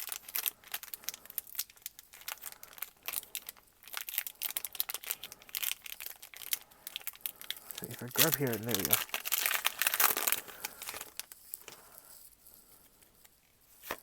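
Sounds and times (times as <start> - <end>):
foil wrapper crinkling: 0.0 - 12.6.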